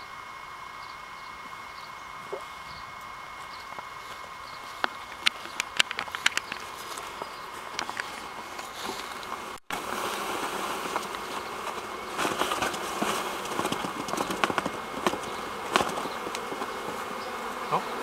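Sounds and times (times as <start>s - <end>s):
bee swarm buzzing: 0.0s - 18.0s.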